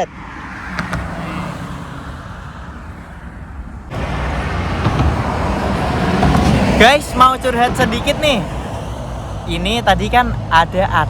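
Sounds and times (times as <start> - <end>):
loud traffic noise: 0.0 - 11.0
road noise: 0.0 - 11.0
vehicle engine humming: 0.0 - 11.0.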